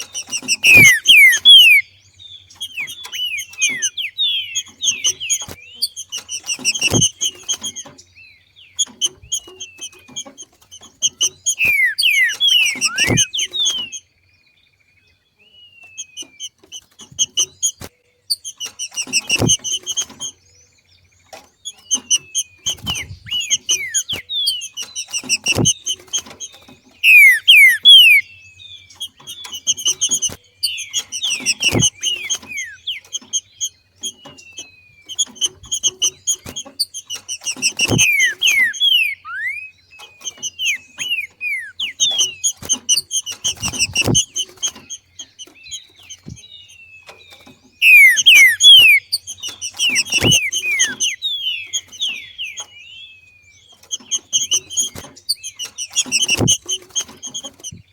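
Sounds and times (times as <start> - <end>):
bird chirping and whistling: 0.0 - 8.0, 8.7 - 14.1, 15.8 - 20.4, 21.6 - 57.9.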